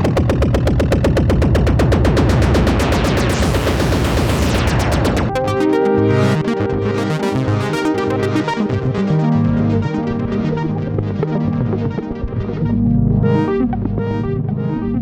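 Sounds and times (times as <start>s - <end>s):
synthesizer chords over bass line: 0.0s - 15.0s
synthesizer sequenced pattern: 0.0s - 15.0s.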